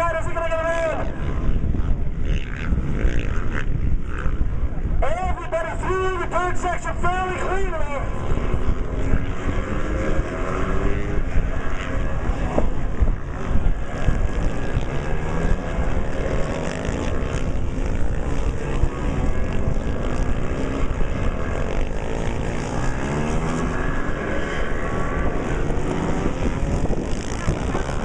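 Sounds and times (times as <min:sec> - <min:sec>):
motorcycle engines revving past: 0:00.0 - 0:28.0.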